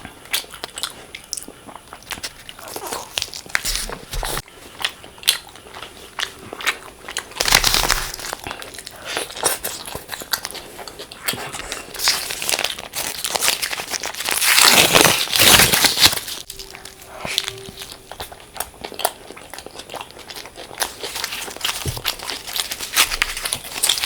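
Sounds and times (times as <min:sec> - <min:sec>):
biting and chewing: 0:00.2 - 0:24.0.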